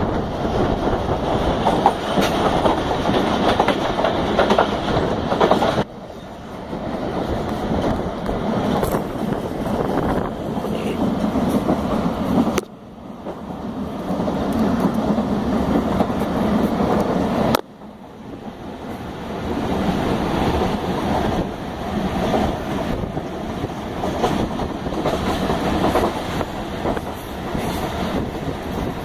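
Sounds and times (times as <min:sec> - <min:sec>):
rushing air: 0:00.0 - 0:29.0
train wheels on rails: 0:00.0 - 0:29.0.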